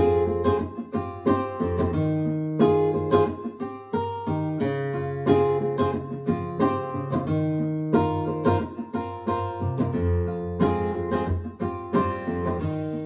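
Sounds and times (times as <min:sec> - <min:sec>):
acoustic guitar through speakers: 0:00.0 - 0:13.0.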